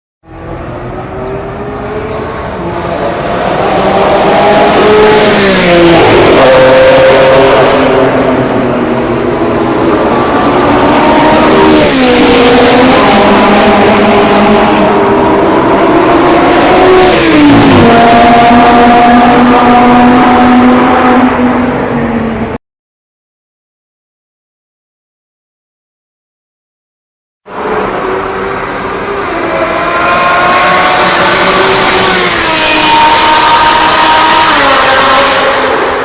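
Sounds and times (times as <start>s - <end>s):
car engine accelerating: 0.3s - 22.6s, 27.5s - 36.0s.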